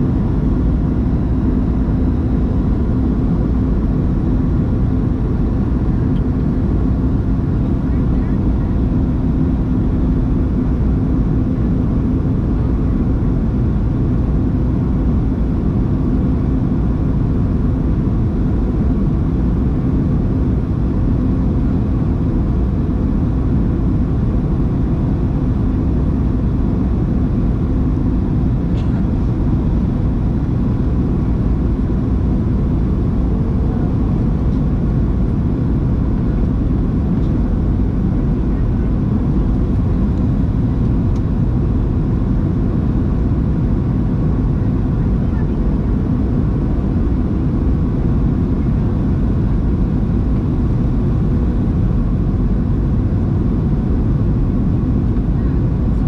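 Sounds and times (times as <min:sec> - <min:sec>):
aircraft cabin engine roar: 0:00.0 - 0:56.0
low hum: 0:00.0 - 0:56.0.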